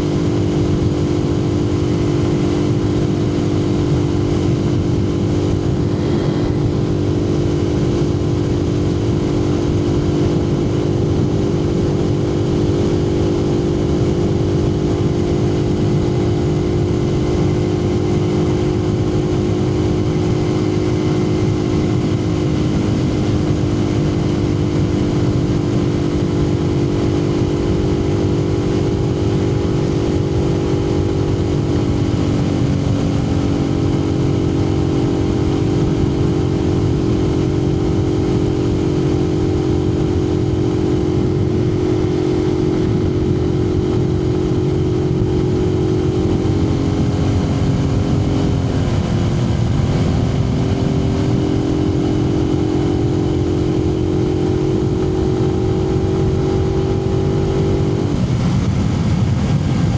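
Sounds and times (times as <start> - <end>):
motorcycle engine cruising: 0.0 - 59.9
wind noise rumble: 0.0 - 59.9.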